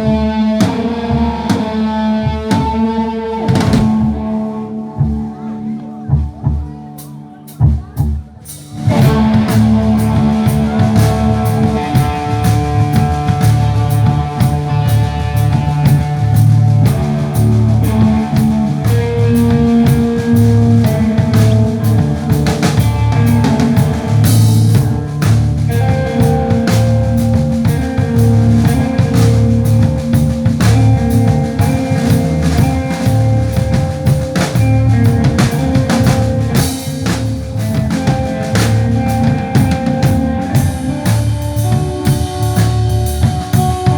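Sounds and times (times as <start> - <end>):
drum kit beat: 0.0 - 4.4, 6.0 - 43.9
rock band playing: 0.0 - 43.9.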